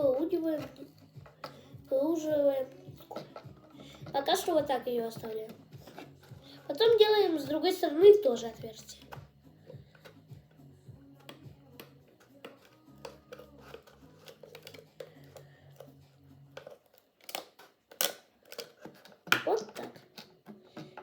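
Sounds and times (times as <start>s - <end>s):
knife cutting plastic bottle: 0.1s - 21.0s.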